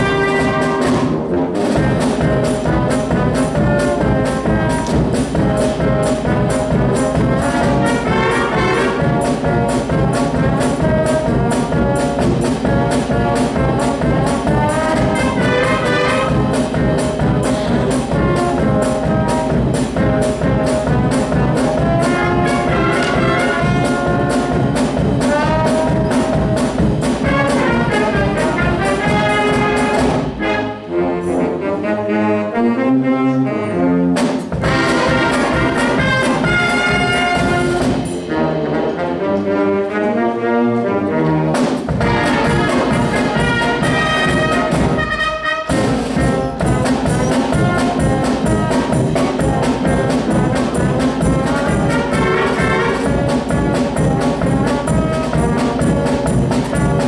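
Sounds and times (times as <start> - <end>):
lower brass passages: 0.0 - 57.0
wind band playing: 0.0 - 57.0.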